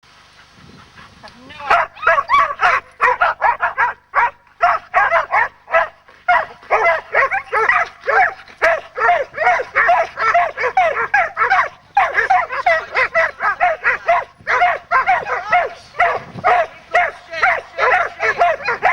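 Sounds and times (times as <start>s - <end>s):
dogs yelping and whining: 1.6s - 18.9s.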